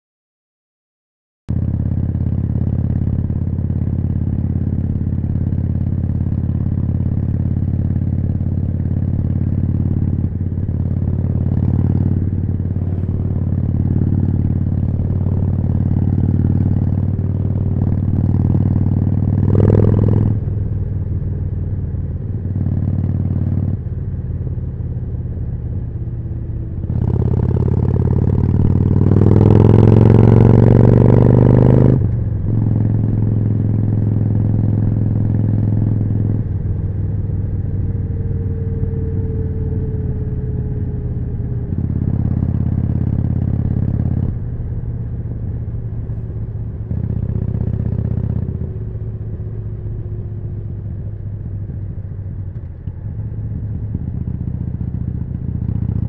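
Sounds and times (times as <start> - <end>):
motorcycle engine revving: 1.5 - 56.0.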